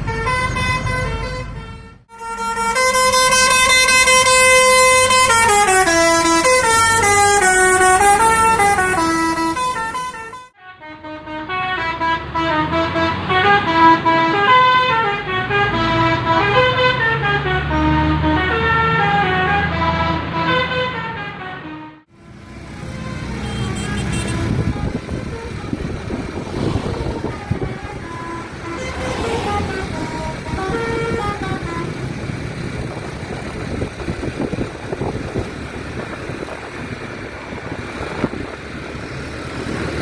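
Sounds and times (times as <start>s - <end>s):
buzzy bus air horn tune: 0.0s - 32.6s.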